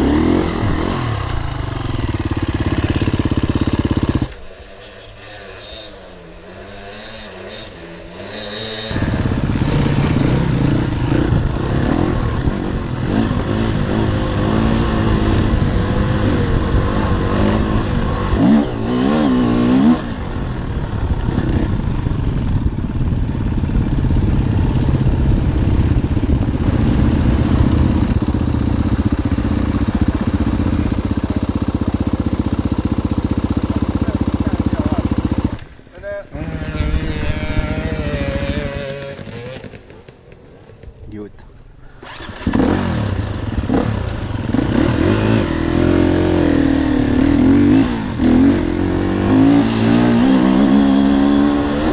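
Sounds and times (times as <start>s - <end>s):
dirt bike engine revving: 0.0s - 40.9s, 42.0s - 51.9s.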